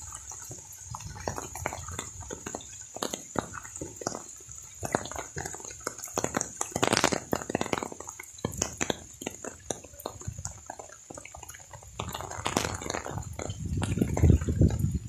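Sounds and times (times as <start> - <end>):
raindrops striking close by: 0.0 - 15.0.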